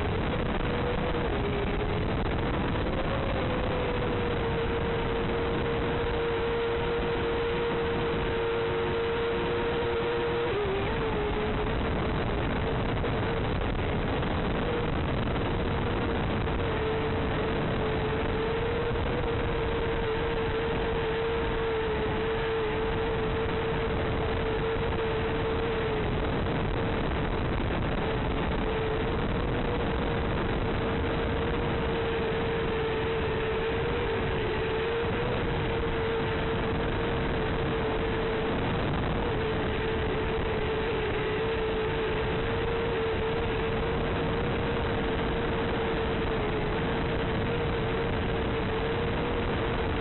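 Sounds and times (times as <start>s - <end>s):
constant mid-pitched tone: 0.0s - 50.0s.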